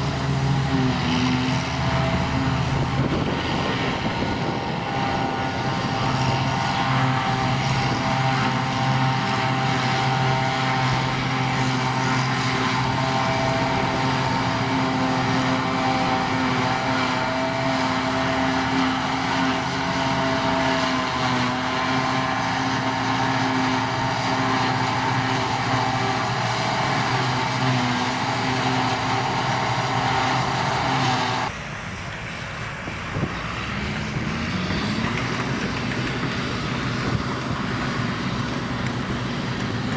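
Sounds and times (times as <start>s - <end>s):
forage harvester chopping grass: 0.0s - 31.5s, 33.7s - 39.9s
tractor engine rising in pitch: 0.0s - 39.9s.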